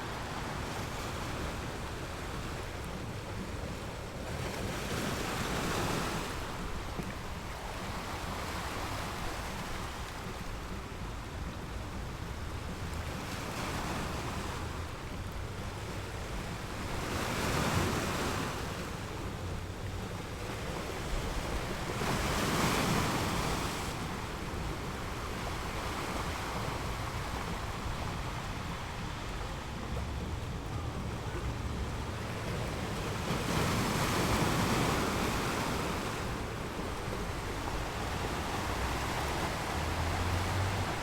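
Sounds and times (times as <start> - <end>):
sea waves breaking on beach: 0.0 - 41.0.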